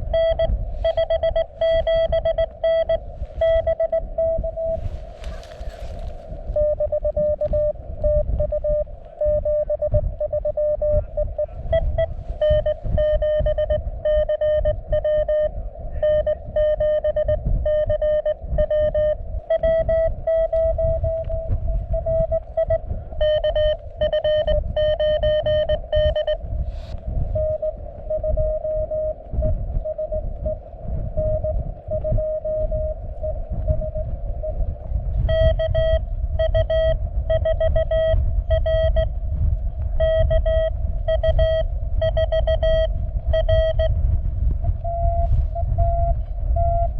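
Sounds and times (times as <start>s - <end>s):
morse code tone: 0.0s - 4.9s, 6.5s - 26.4s, 27.3s - 30.6s, 31.2s - 34.6s, 35.2s - 39.1s, 40.0s - 44.0s, 44.7s - 46.9s
wind rumbling on microphone: 0.0s - 46.9s.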